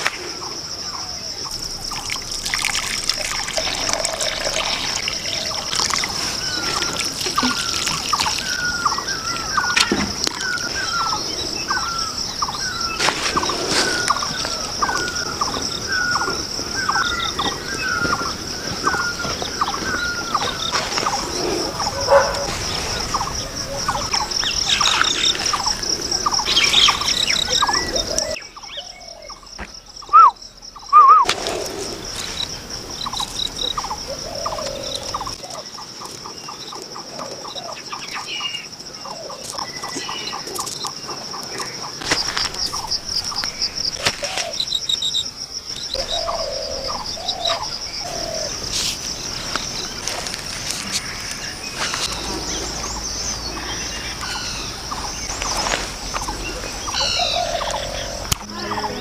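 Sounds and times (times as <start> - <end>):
birds chirping and calling: 3.4 - 59.0.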